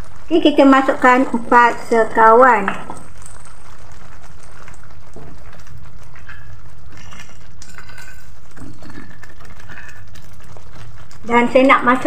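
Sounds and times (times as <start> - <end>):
spice paste frying in oil: 0.0 - 12.0
wooden spatula stirring: 0.0 - 12.0.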